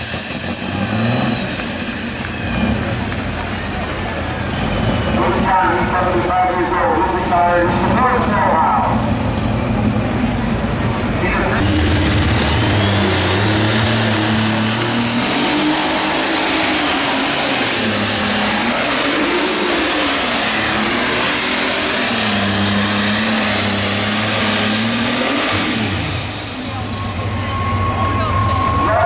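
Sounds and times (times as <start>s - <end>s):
high turbo whine: 0.0s - 29.0s
tractor diesel engine at full power: 0.0s - 29.0s.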